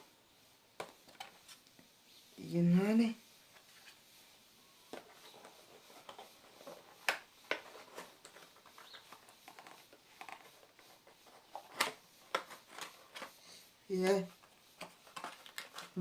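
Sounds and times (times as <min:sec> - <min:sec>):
rustling: 0:00.8 - 0:16.0.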